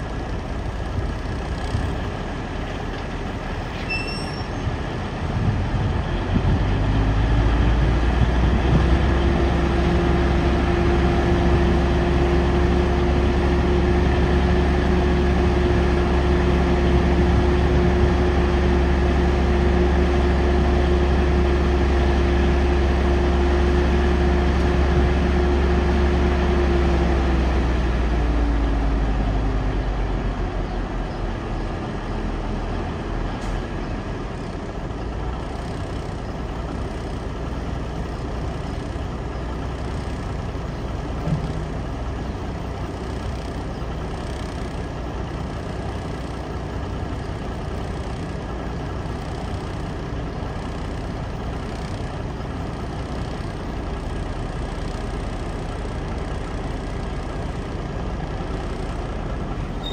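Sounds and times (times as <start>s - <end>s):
diesel truck engine: 0.0s - 59.9s.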